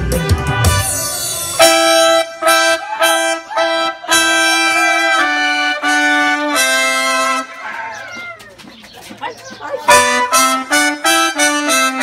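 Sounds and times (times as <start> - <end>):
live band with trumpet melody: 0.0 - 8.2, 9.9 - 12.0.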